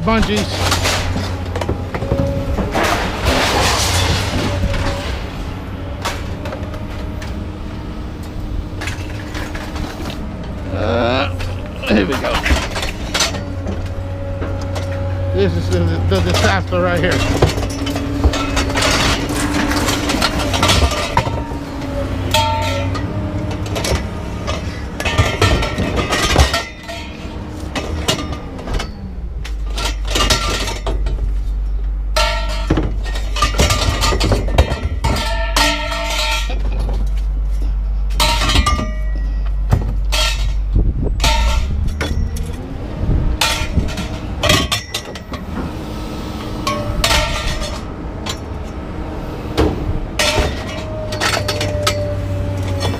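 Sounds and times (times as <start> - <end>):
scrap metal clanking: 0.0 - 48.8, 49.4 - 52.9
engine humming: 0.0 - 52.9.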